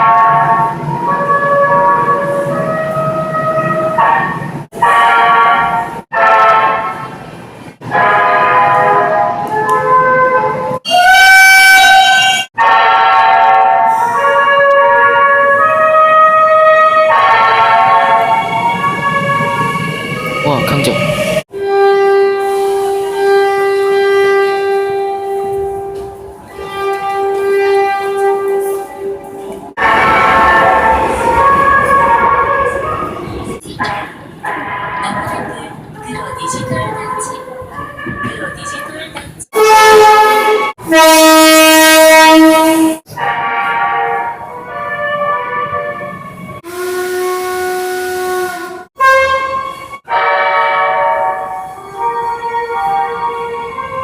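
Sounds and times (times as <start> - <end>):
train horn: 0.0 - 7.2, 7.8 - 54.0.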